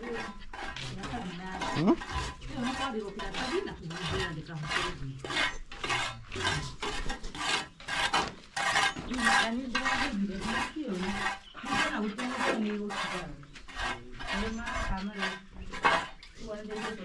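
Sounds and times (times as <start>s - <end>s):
rhythmic dry rasping scrapes: 0.0s - 17.0s.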